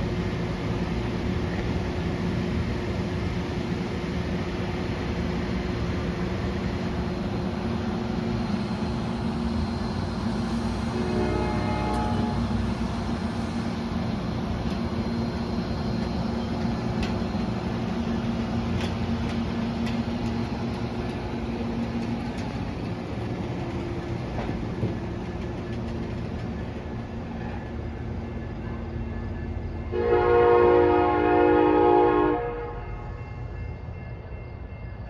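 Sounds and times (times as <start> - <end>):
diesel locomotive humming: 0.0 - 35.0.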